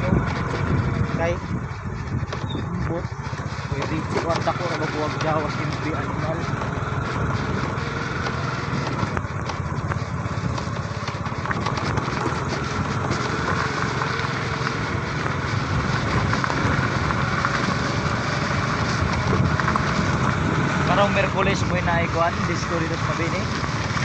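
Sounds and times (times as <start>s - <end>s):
motorcycle engine running: 0.0s - 24.0s
rush of riding: 0.0s - 24.0s.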